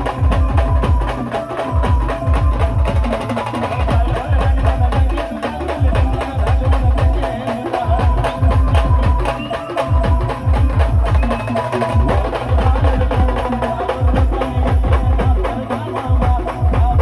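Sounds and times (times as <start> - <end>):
band playing: 0.0 - 17.0
fast heavy drumming: 0.0 - 17.0.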